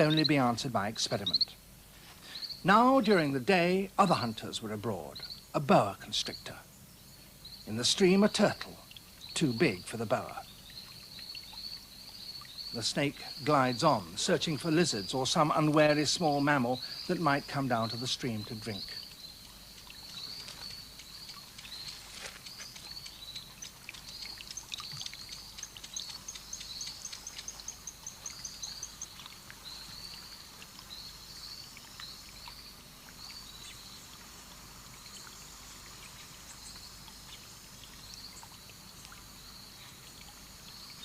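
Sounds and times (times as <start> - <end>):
faint trickle of water: 0.0 - 41.0.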